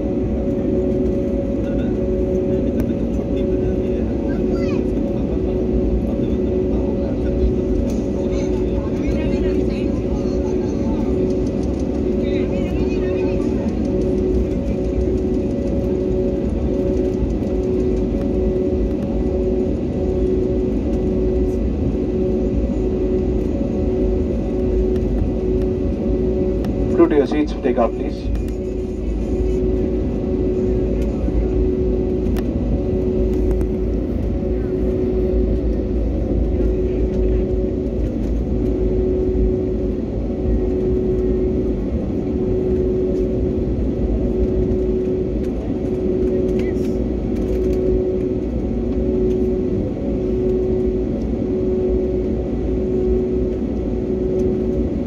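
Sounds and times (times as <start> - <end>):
jet engine rumble: 0.0 - 55.0
whining tones: 0.0 - 55.0.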